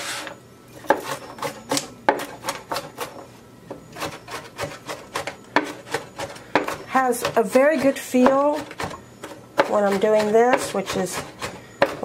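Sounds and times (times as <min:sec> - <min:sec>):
knife chopping onion on wooden board: 0:00.8 - 0:03.2, 0:04.0 - 0:12.0.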